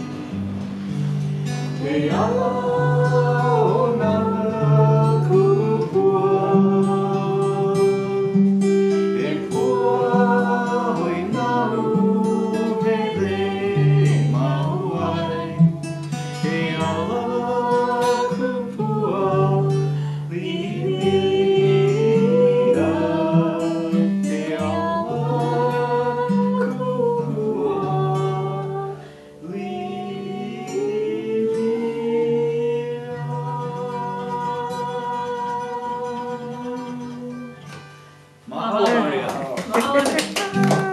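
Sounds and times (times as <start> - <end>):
acoustic guitar strumming: 0.0 - 40.9
man singing: 1.7 - 8.4, 9.1 - 37.6.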